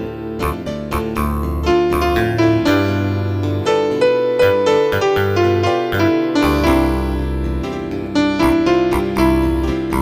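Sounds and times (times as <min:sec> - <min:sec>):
keyboard melody: 0:00.0 - 0:10.0
held bass notes: 0:00.4 - 0:03.8, 0:04.4 - 0:10.0.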